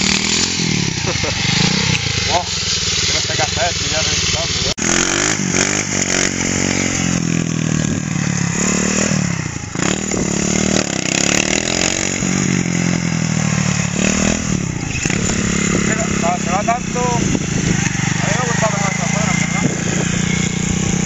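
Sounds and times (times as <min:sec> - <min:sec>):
small motorbike engine revving: 0:00.0 - 0:21.0.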